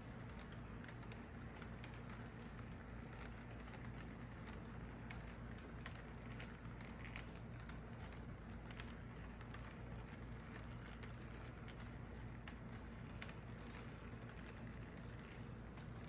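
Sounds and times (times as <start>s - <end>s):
light irregular clicks: 0.0s - 16.0s.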